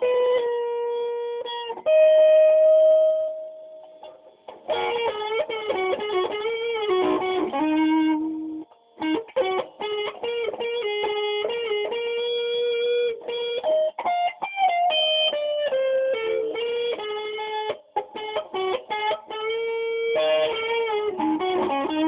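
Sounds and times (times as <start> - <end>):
electric guitar solo: 0.0 - 22.0.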